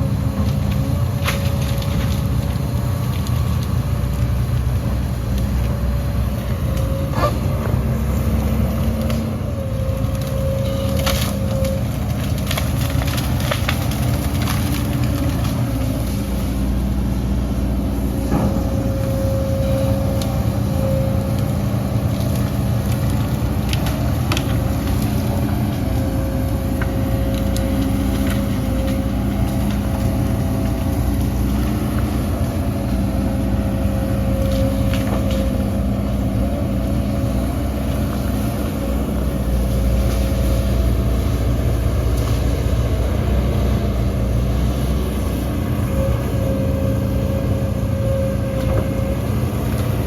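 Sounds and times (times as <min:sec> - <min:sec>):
heavy machinery diesel engine: 0:00.0 - 0:50.0
knocks and clanks of soil and metal: 0:00.0 - 0:50.0.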